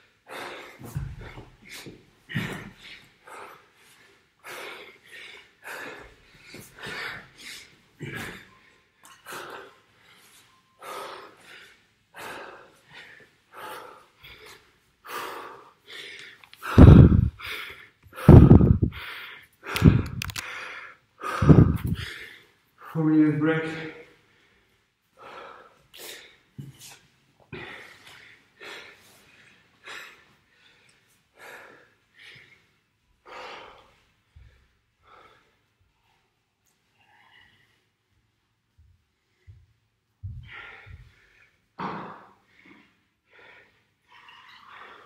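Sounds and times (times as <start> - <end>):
man panting hard: 0.0 - 23.0, 23.7 - 35.9, 39.2 - 41.6, 42.2 - 44.1.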